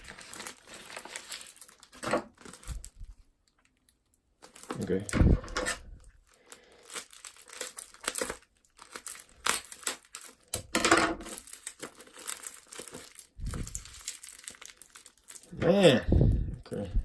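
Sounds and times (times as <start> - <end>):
packaging crinkling and tearing: 0.0 - 15.9.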